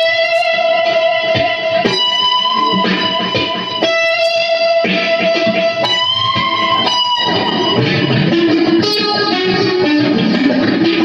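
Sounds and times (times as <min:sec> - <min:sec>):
electric guitar sustained notes: 0:00.0 - 0:11.0.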